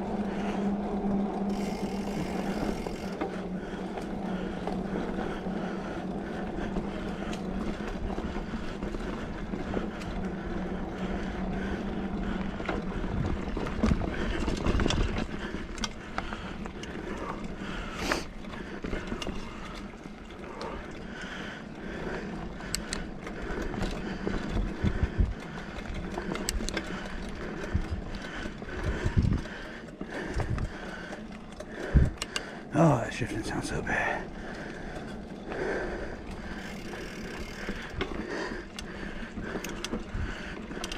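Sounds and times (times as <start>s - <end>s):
bike chain and derailleur noise: 0.0s - 40.9s
bike rattling over bumps: 0.0s - 40.9s
mountain bike tyre noise on dirt: 0.0s - 40.9s.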